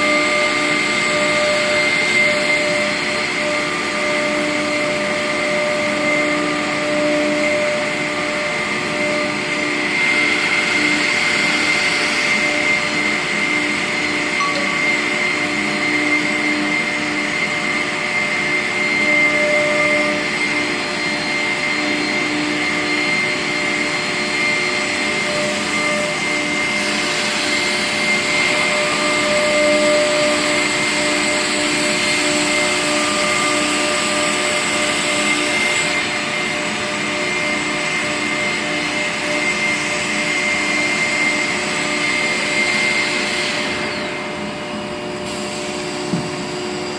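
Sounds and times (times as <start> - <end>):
router spindles whining: 0.0 - 46.9.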